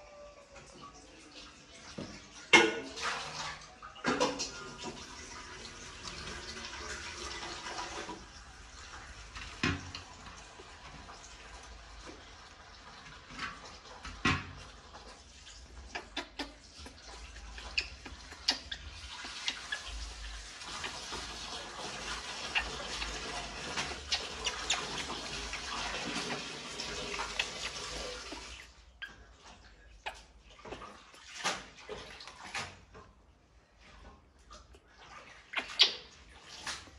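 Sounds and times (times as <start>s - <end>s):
water running and splashing: 0.6s - 36.9s.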